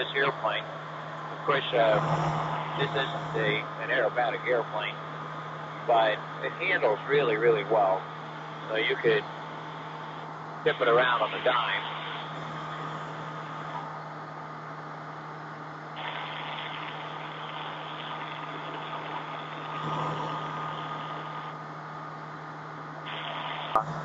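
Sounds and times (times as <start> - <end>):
aircraft engine and propeller droning: 0.0 - 24.0.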